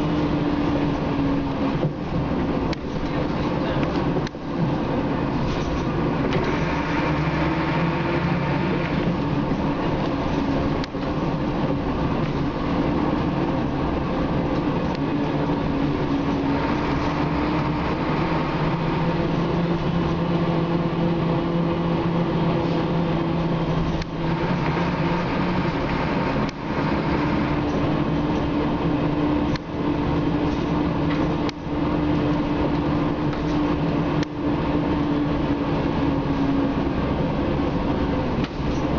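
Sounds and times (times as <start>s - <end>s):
bus body rattle: 0.0s - 20.5s, 22.8s - 34.9s, 37.6s - 38.9s
bus diesel engine droning: 0.0s - 38.9s.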